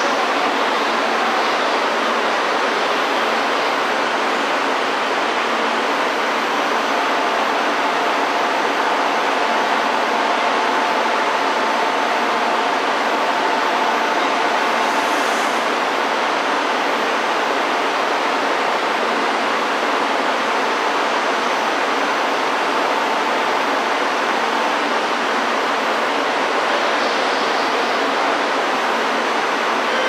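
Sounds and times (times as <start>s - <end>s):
standing train rushing noise: 0.0s - 30.0s.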